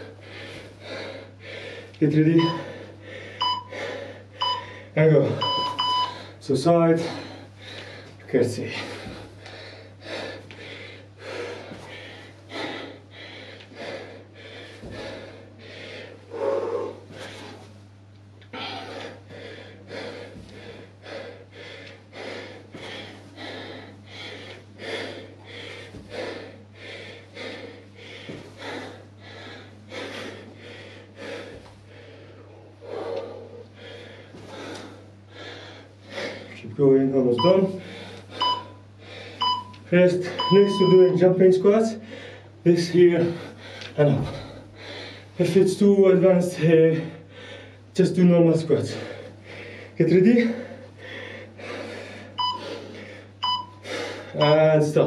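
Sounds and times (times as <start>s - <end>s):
man breathing hard: 0.0s - 17.8s, 18.4s - 36.7s, 37.4s - 41.2s, 41.8s - 48.0s, 48.7s - 54.5s
low steady hum: 0.0s - 55.0s.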